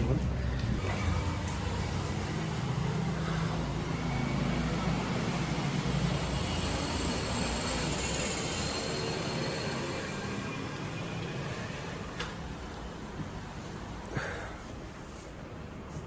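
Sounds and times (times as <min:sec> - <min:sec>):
low rumble of passing vehicles: 0:00.0 - 0:16.0.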